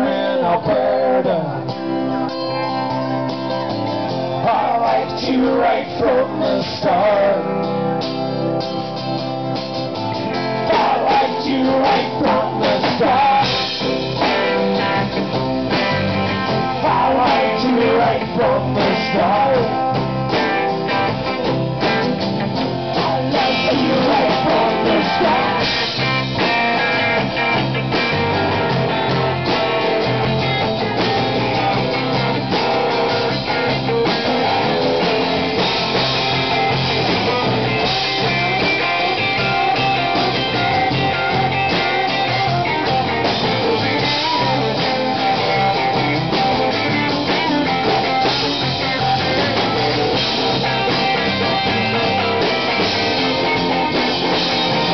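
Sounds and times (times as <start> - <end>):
acoustic guitar: 0.0 - 54.9
bass guitar: 0.0 - 54.9
drum kit: 0.0 - 54.9
electric guitar: 0.0 - 54.9.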